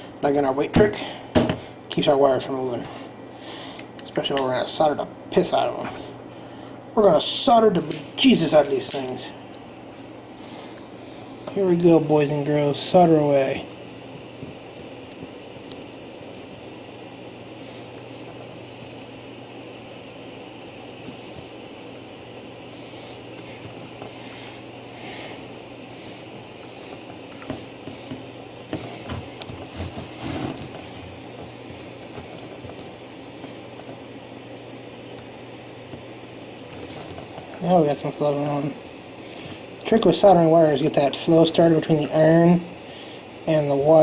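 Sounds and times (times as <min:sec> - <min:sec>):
gas soldering iron hissing: 0:07.0 - 0:44.0.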